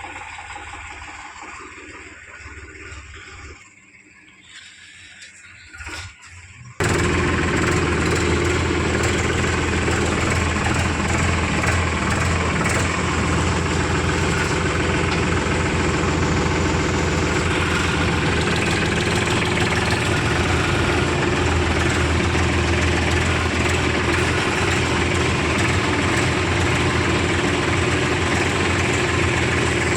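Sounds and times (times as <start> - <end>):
heavy diesel engine running: 0.0 - 5.0, 6.8 - 29.9.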